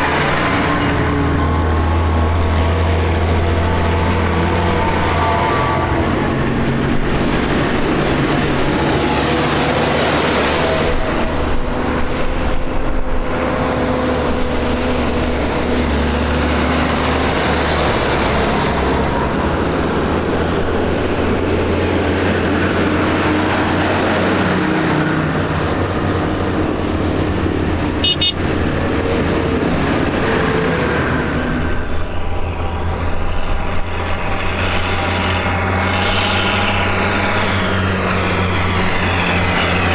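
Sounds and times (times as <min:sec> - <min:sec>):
tractor diesel engines running: 0:00.0 - 0:39.9.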